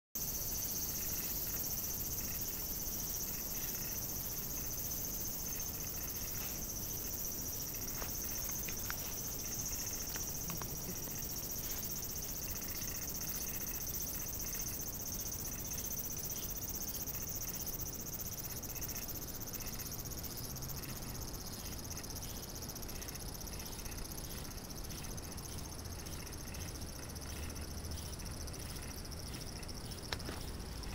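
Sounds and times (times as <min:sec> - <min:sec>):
high-pitched insect chorus: 0:00.2 - 0:30.9.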